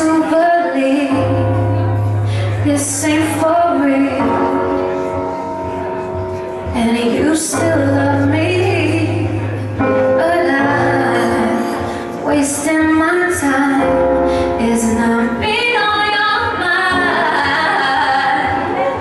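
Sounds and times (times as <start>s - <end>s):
woman singing a pop ballad: 0.0s - 5.3s, 6.6s - 19.0s.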